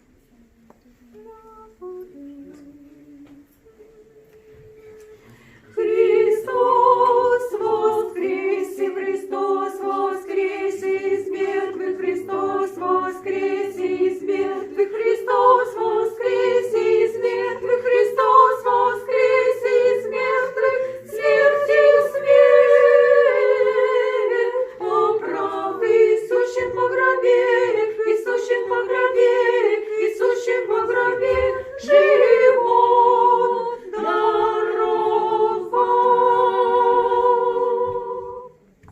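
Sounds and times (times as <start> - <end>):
choir chanting a cappella: 1.1 - 38.9.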